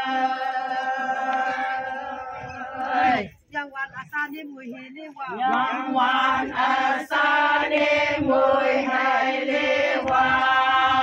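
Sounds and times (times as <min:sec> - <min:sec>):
group of voices chanting: 0:00.0 - 0:03.4, 0:05.4 - 0:11.0.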